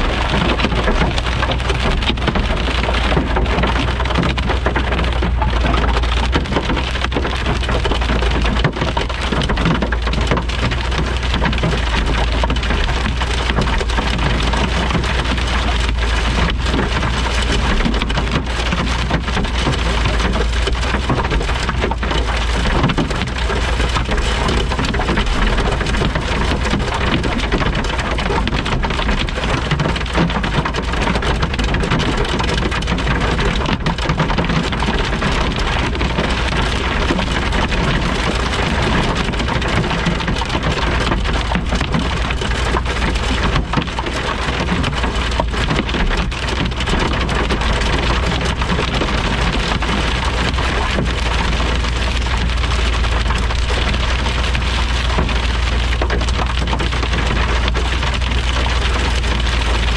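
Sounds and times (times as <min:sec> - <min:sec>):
deep rumble: 0:00.0 - 0:59.9
heavy rain pelting down: 0:00.0 - 0:59.9.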